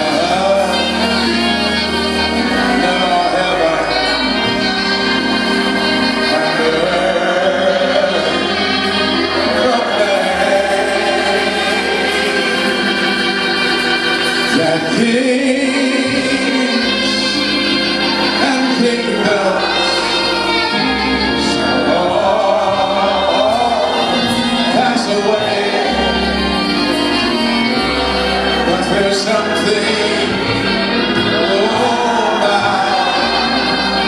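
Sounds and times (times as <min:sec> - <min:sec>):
choir singing gospel: 0:00.0 - 0:34.0
instrumental accompaniment with bass: 0:00.0 - 0:34.0.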